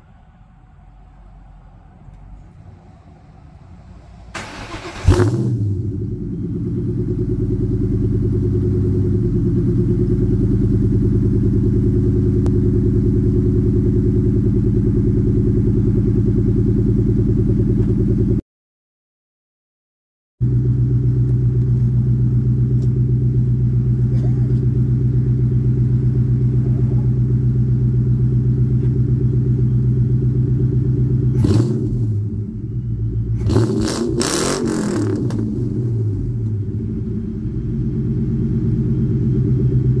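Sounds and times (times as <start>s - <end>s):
car engine idling: 0.0s - 18.4s, 20.4s - 40.0s.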